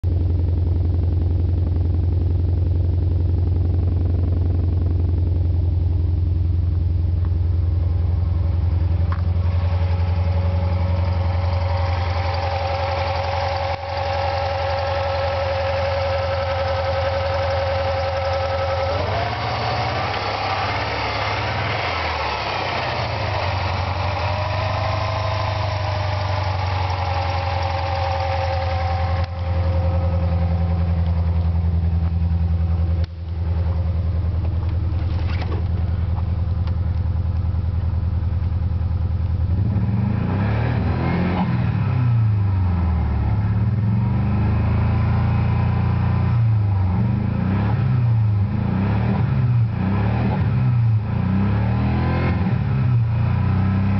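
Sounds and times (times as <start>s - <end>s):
car engine idling: 0.0s - 41.3s, 42.0s - 47.3s
high engine tone: 0.0s - 53.9s
engine revving: 7.6s - 53.9s.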